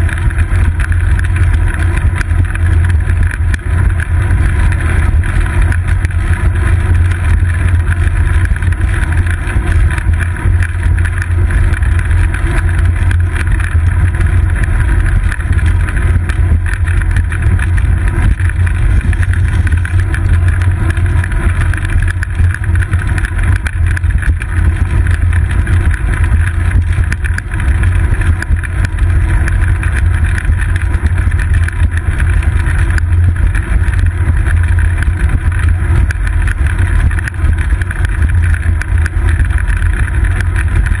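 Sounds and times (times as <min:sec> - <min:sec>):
road vibration rumble: 0:00.0 - 0:41.0.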